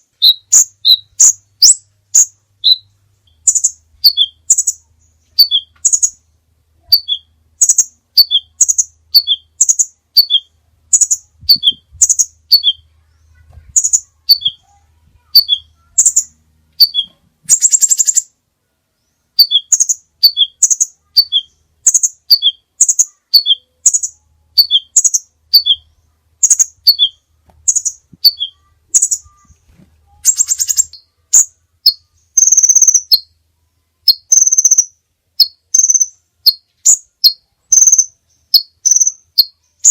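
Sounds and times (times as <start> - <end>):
buzzy bird trills: 0.0 - 18.3, 19.0 - 33.3, 34.0 - 39.9
songbird chirping: 0.0 - 39.9.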